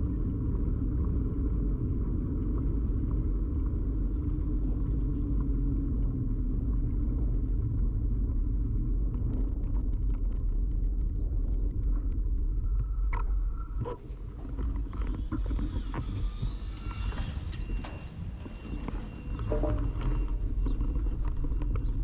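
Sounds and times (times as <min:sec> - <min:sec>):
bicycle road and frame vibration: 0:00.0 - 0:22.0
wind on microphone: 0:00.0 - 0:22.0.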